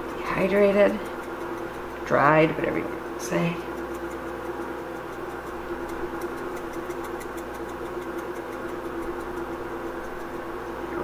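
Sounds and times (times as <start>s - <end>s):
sauce ticking in a skillet: 0.0s - 2.1s, 3.0s - 10.8s
mechanical hum with held tones: 0.0s - 11.0s.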